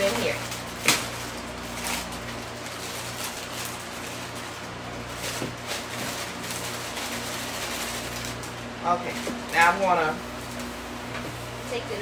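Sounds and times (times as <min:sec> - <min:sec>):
plastic bag crinkling: 0:00.0 - 0:10.8
steady low hum: 0:00.0 - 0:12.0.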